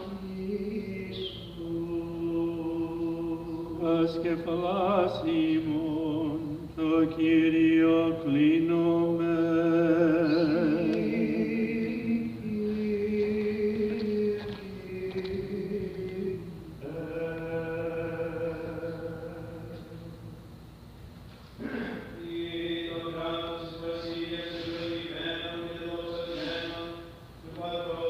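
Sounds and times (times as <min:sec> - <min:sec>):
unaccompanied choral chant: 0:00.0 - 0:20.4, 0:21.6 - 0:28.0
low held sung drone: 0:00.0 - 0:28.0.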